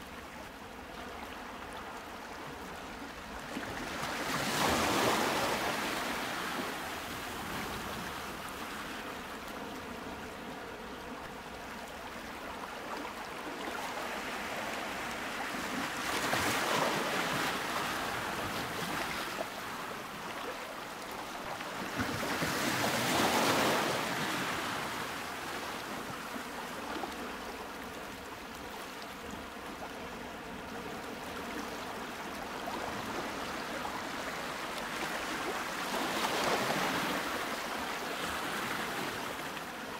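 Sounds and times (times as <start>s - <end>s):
ocean surf waves: 2.9s - 11.4s, 13.0s - 30.2s, 30.8s - 39.9s.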